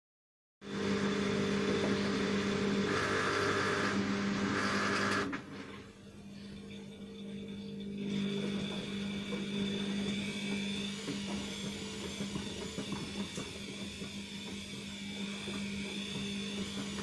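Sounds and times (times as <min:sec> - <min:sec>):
washing machine spinning: 0:00.6 - 0:17.0.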